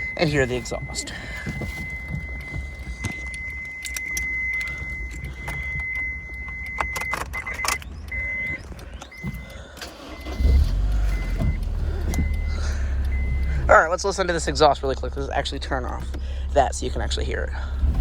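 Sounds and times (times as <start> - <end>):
car engine starting and idling: 0.0 - 18.0
car warning chime and beeps: 0.0 - 18.0.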